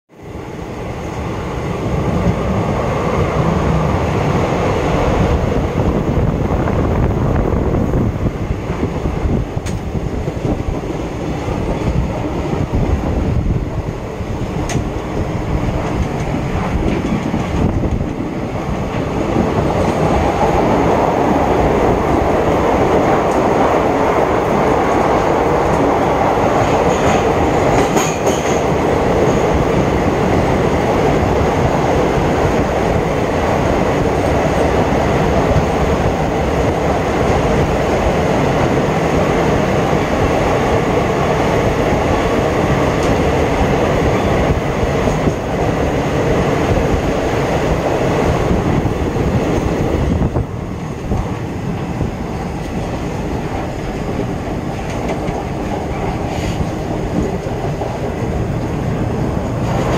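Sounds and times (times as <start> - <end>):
train wheels rumbling on rails: 0.1 - 59.9.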